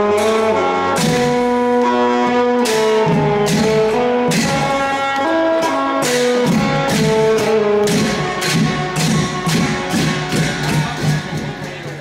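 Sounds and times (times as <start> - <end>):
long drums beating: 0.2 - 12.0.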